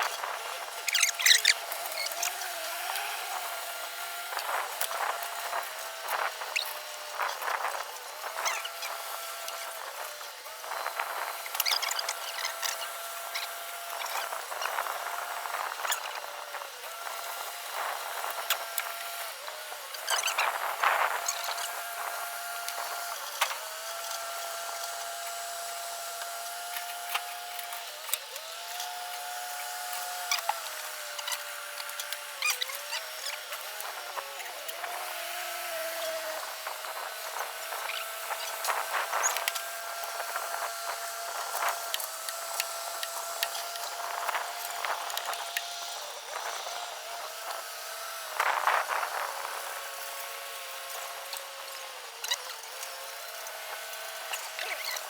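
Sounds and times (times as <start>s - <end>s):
excavator engine whining: 0.0s - 55.0s.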